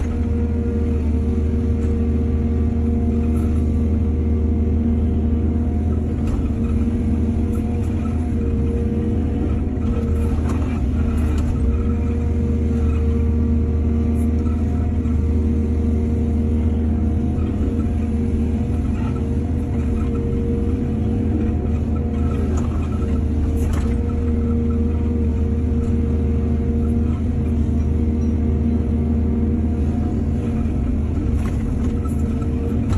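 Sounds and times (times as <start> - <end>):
diesel engine running under load: 0.0 - 32.9.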